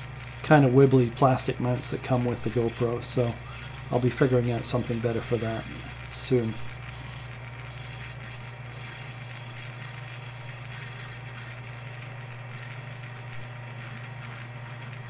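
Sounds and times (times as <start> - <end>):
lathe motor hum: 0.0 - 15.0.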